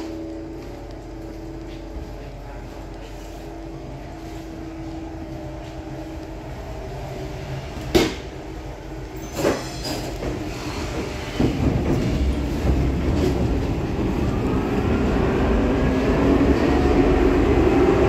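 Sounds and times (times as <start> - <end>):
electric tram running: 0.0 - 18.0.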